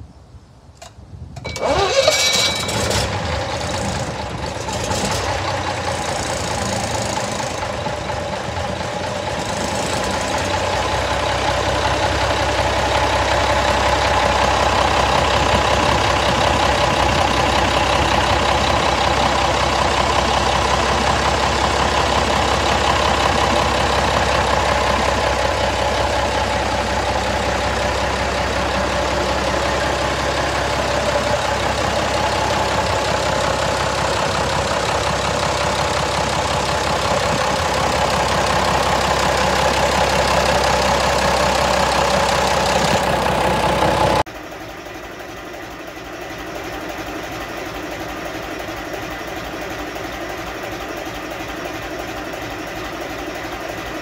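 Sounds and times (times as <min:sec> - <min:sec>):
diesel engine running: 0:01.4 - 0:54.0.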